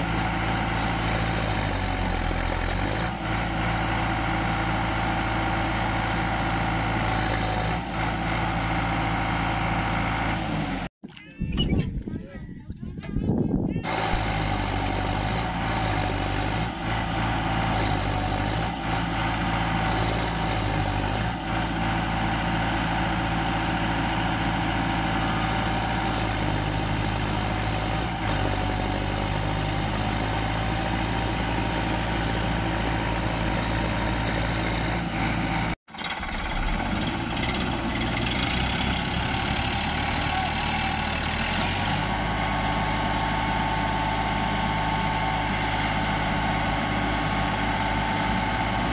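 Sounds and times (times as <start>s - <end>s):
tractor diesel engines running: 0.0s - 48.9s.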